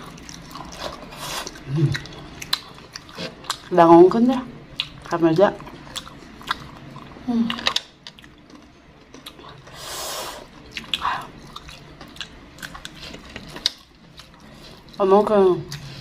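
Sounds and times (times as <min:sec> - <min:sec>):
biting and chewing food: 0:00.0 - 0:03.7, 0:04.6 - 0:09.8, 0:10.4 - 0:15.0.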